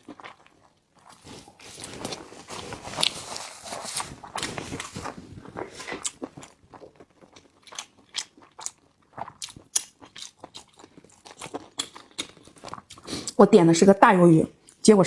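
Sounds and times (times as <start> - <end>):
chewing crunchy food: 0.0 - 13.4.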